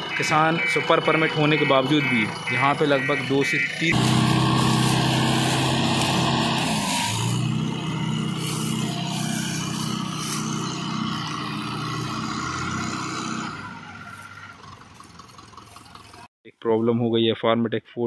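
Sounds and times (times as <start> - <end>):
tractor diesel engine under load: 0.0 - 16.3.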